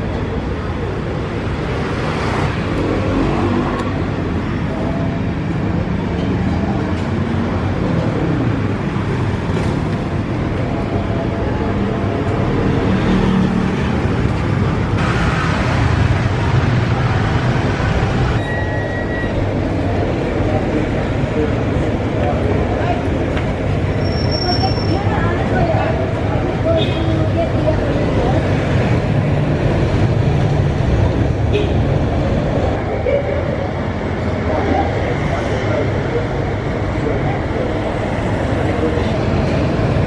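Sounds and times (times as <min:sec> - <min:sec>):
busy street traffic: 0:00.0 - 0:40.0
scooters and cars passing: 0:00.0 - 0:40.0.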